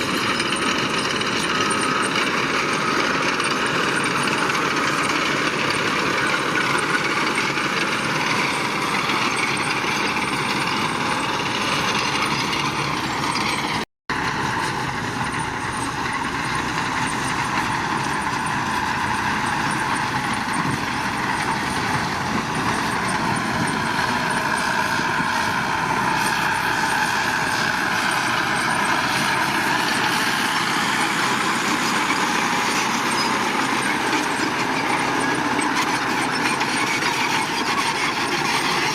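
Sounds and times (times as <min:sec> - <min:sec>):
heavy construction machinery running: 0:00.0 - 0:38.9.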